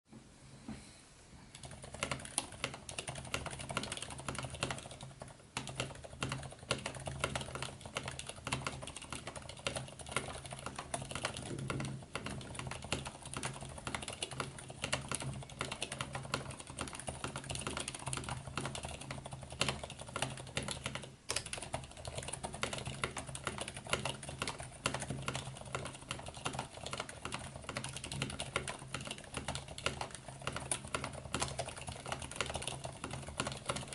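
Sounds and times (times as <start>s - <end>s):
muted mechanical keyboard typing: 1.5s - 33.9s.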